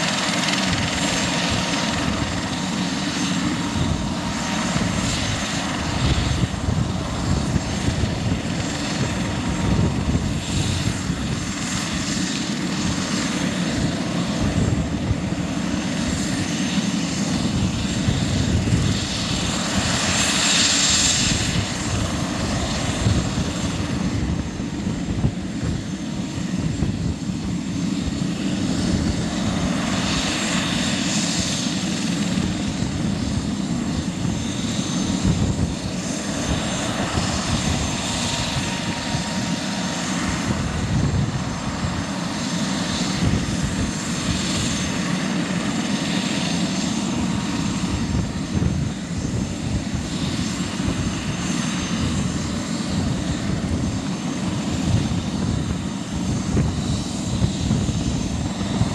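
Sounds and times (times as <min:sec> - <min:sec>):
faint high turbine whine: 0:00.0 - 0:58.9
helicopter engines rushing: 0:00.0 - 0:58.9.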